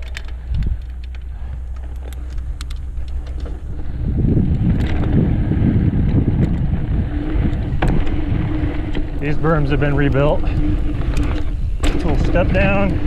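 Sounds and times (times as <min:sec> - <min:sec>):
bike clicks and rattles: 0:00.0 - 0:13.0
tyres rolling on dirt: 0:00.0 - 0:13.0
wind rushing over microphone: 0:00.0 - 0:13.0.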